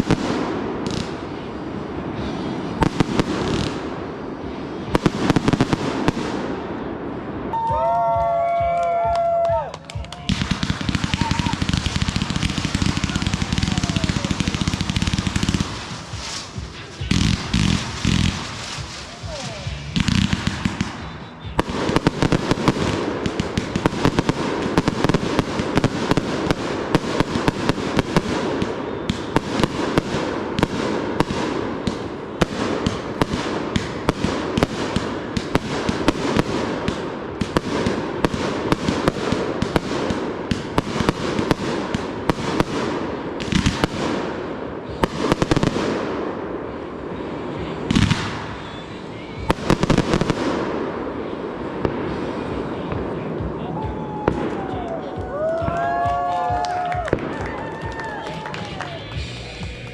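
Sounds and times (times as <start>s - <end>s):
deep firework booms: 0.0s - 8.1s, 10.3s - 56.0s
fireworks bangs and crackling: 0.0s - 59.9s.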